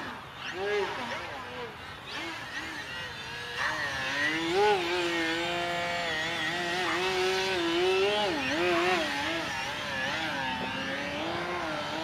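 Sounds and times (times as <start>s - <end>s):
model plane propeller buzzing: 0.0s - 12.0s.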